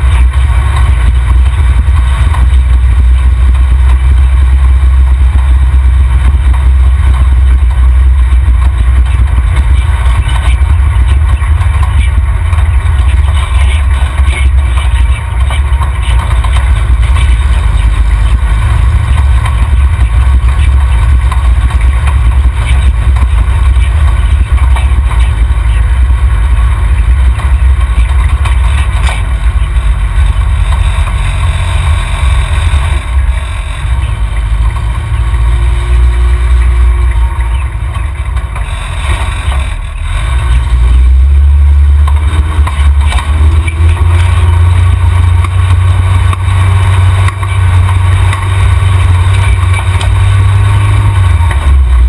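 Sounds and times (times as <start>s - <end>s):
off-road vehicle engine rumble: 0.0s - 52.0s.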